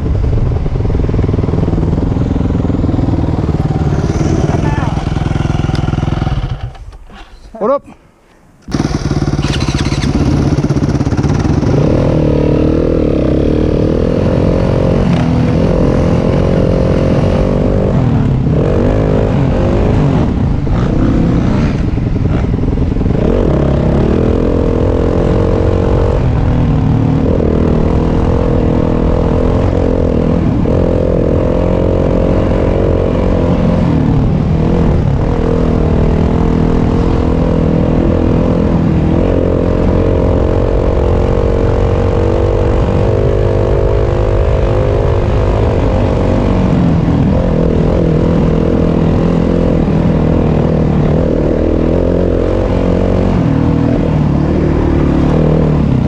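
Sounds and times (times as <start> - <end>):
dirt bike engine revving: 1.3 - 7.3, 8.7 - 56.0.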